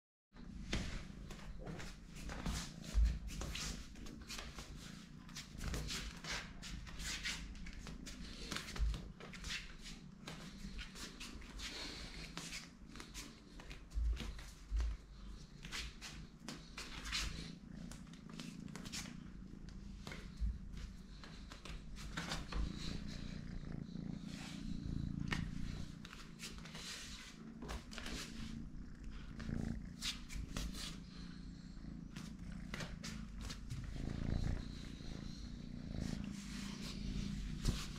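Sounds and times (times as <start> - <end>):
kitten purring: 0.4 - 37.9
soft rustles and clicks: 0.4 - 37.9.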